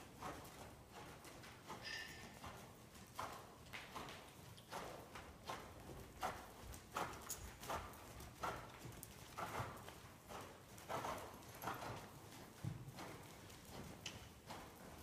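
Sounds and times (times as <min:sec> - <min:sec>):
horse hooves on sand: 0:00.0 - 0:15.0.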